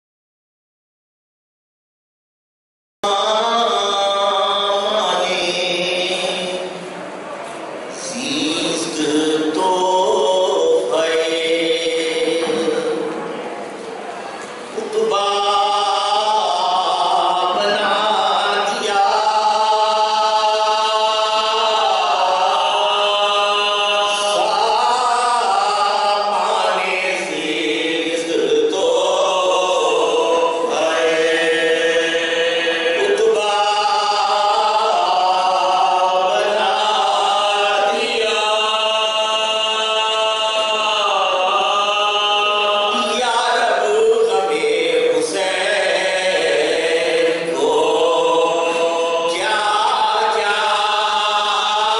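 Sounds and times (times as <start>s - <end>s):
men chanting a lament: 8.0s - 13.2s, 14.8s - 51.9s.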